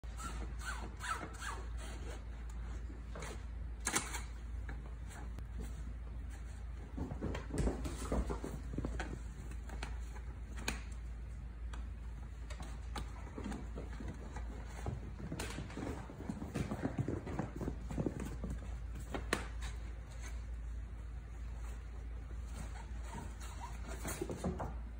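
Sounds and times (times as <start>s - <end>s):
kittens playing with toys: 2.2s - 24.9s.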